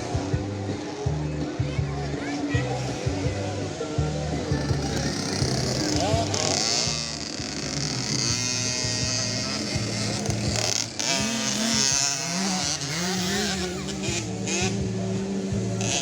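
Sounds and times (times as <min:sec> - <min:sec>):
small motocross bike engines revving: 0:00.0 - 0:16.0.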